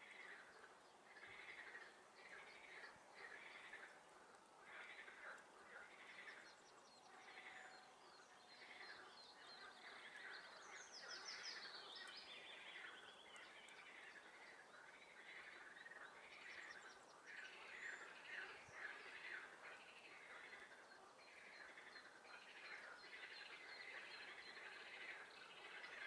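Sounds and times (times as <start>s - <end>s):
songbirds singing: 4.7s - 26.0s.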